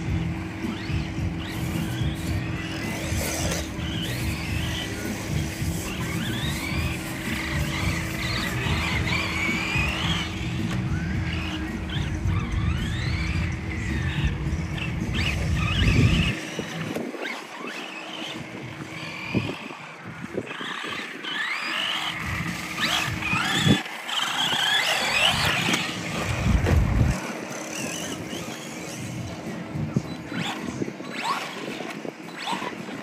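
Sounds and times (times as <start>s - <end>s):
rc car motors whining: 0.0s - 33.0s.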